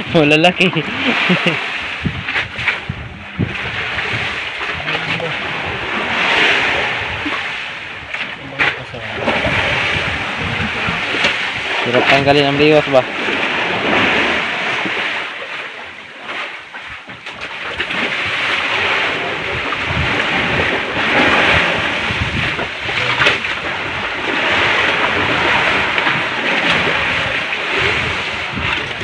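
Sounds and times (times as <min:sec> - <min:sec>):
sea water splashing around boat: 0:00.0 - 0:29.0.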